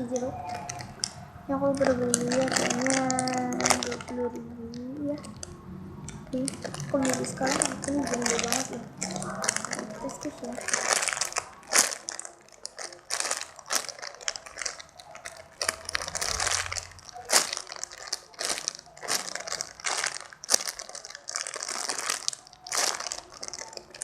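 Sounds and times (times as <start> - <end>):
foam squishy toy squishing: 0.0 - 24.0.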